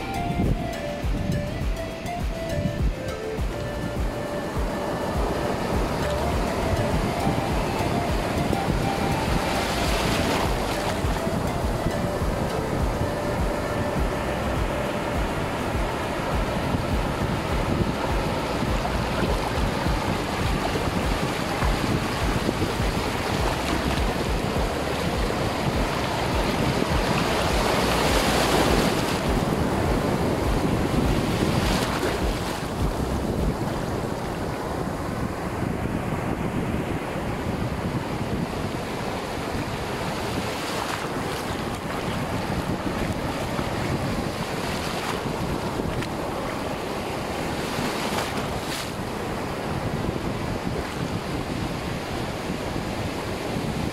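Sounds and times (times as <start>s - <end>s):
ocean surf breaking: 0.0s - 53.9s
wind buffeting microphone: 0.0s - 53.9s.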